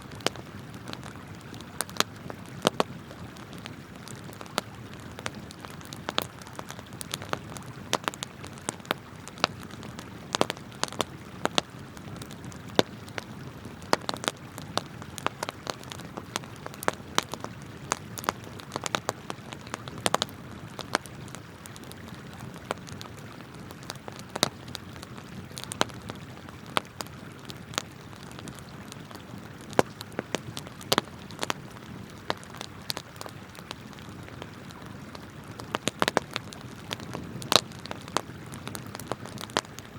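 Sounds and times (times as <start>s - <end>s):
campfire crackling and popping: 0.0s - 39.9s
river flowing: 0.0s - 39.9s.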